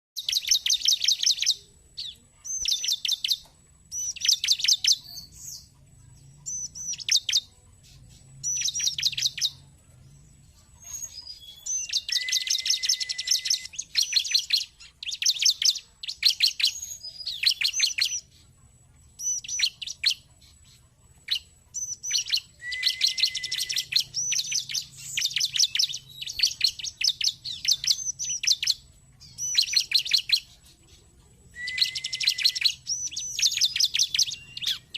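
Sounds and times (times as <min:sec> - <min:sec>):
bird chirping and trilling: 0:00.2 - 0:34.9.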